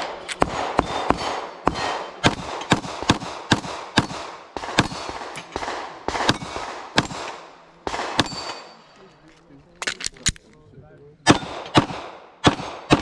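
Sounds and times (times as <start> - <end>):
handgun shots with echo: 0.0 - 8.8, 11.3 - 13.0.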